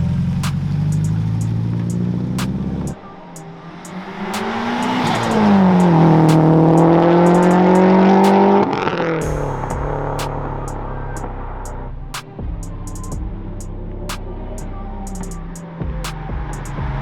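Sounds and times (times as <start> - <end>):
background music with steady beat: 0.0 - 17.0
car engine revving: 0.0 - 17.0.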